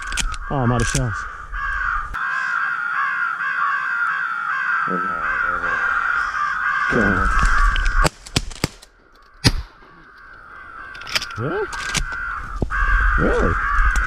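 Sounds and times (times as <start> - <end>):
crows cawing: 0.0 - 8.2, 8.9 - 14.0.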